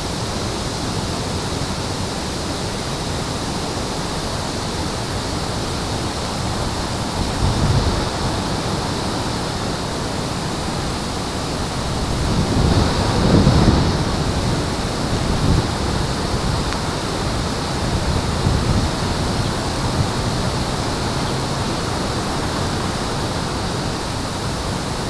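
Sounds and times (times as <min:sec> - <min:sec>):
rushing outdoor noise: 0:00.0 - 0:25.0.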